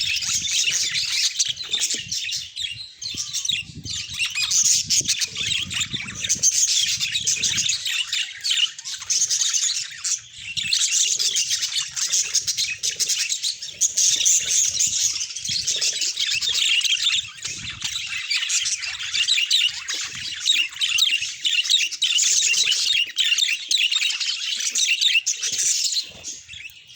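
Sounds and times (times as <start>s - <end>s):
budgerigars chattering and warbling: 0.0s - 26.9s.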